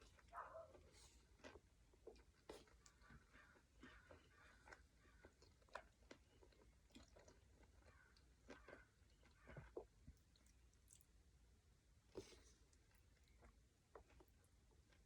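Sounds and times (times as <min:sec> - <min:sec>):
person chewing noodles: 0:00.0 - 0:11.1, 0:12.1 - 0:15.0.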